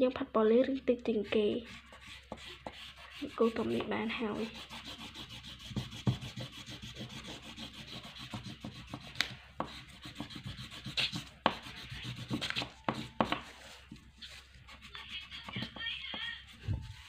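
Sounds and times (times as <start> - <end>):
crayon scribbling on paper: 1.1 - 17.0.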